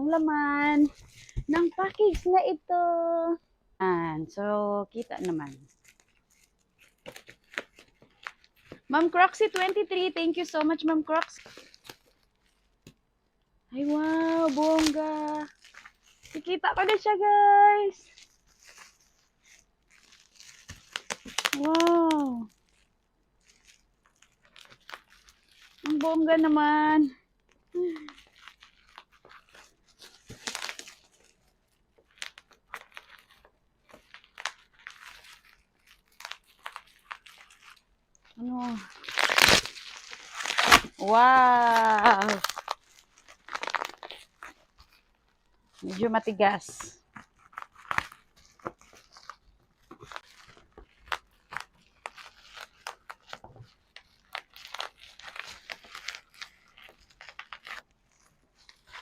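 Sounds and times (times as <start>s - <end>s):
packaging wrap crinkling and tearing: 0.1s - 2.3s, 4.9s - 13.1s, 13.7s - 59.0s.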